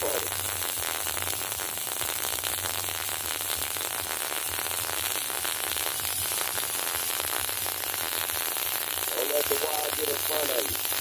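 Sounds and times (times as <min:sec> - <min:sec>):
welding arc crackling: 0:00.0 - 0:11.0.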